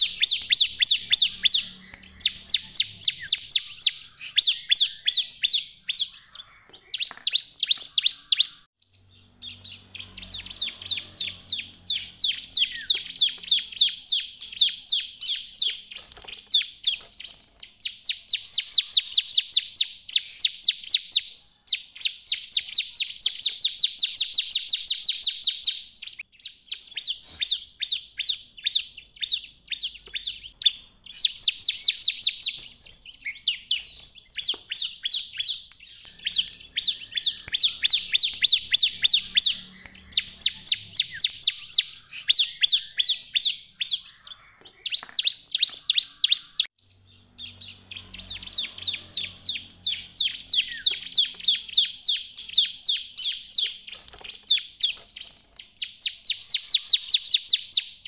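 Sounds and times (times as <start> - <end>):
bird rapid high chirps: 0.0 - 58.0.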